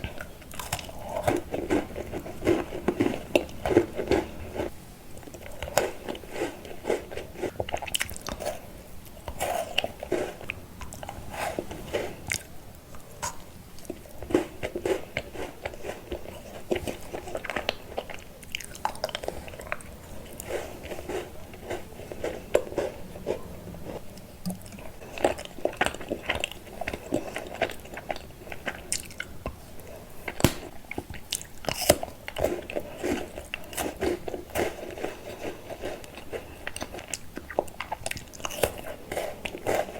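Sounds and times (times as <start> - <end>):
person chewing crunchy candy: 0.0 - 39.9.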